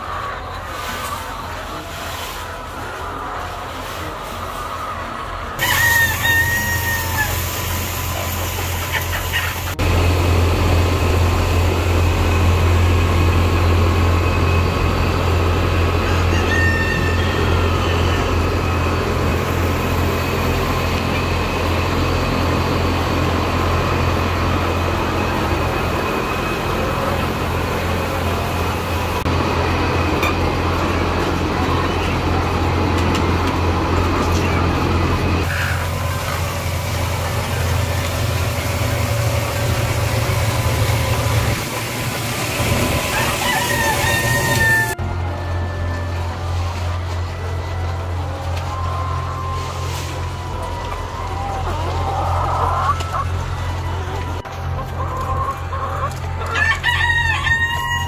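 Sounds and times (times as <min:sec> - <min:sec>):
hens clucking: 0:00.0 - 0:58.0
low machine hum: 0:00.0 - 0:58.0.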